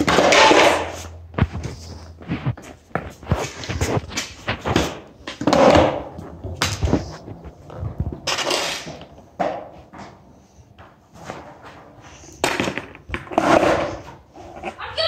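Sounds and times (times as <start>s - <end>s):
skateboards clacking: 0.0s - 1.5s, 2.6s - 15.0s
skateboard wheels rolling on concrete: 0.0s - 15.0s.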